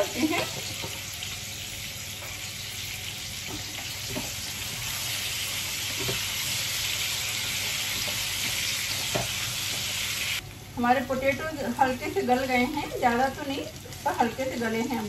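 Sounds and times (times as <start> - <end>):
potatoes sizzling in oil: 0.0 - 15.0.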